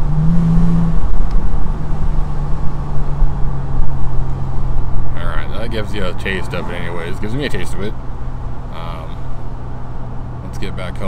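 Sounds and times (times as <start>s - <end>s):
car exhaust drone from cabin: 0.0s - 11.0s.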